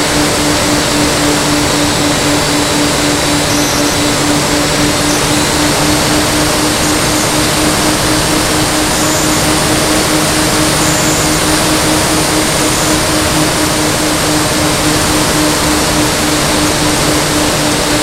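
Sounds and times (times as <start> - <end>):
propeller engine droning: 0.0 - 18.0
rush of air noise: 0.0 - 18.0.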